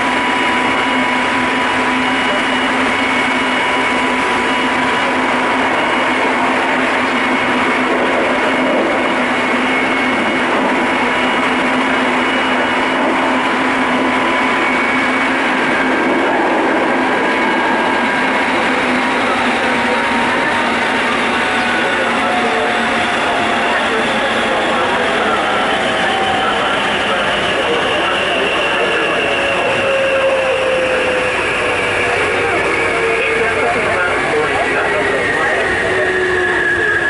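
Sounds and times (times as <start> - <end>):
steady whining tones: 0.0 - 37.0
train wheels rumbling on rail: 0.0 - 37.0.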